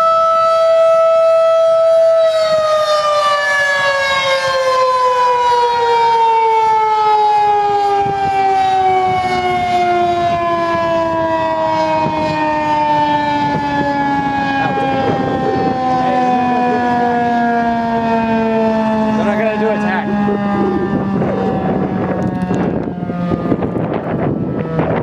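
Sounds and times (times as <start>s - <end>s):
warning siren winding down: 0.0s - 25.0s.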